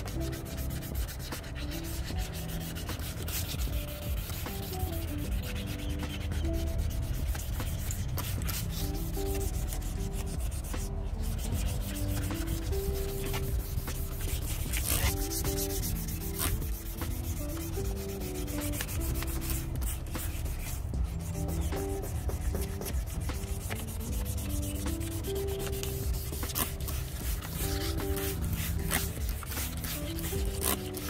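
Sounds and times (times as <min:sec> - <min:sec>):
sanding plastic lens: 0:00.0 - 0:31.0.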